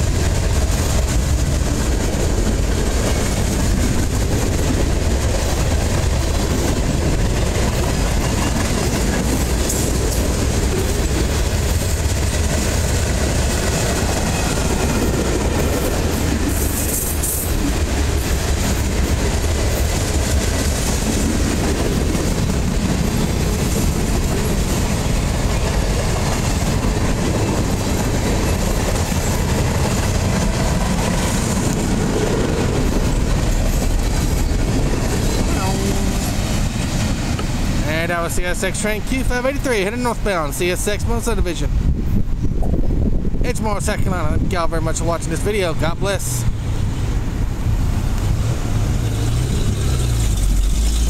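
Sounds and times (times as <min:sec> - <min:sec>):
freight train wheels rumbling on rails: 0:00.0 - 0:51.0.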